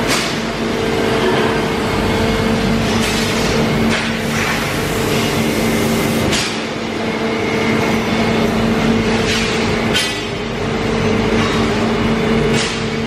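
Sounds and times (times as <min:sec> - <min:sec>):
industrial machinery hum and whir: 0:00.0 - 0:13.0.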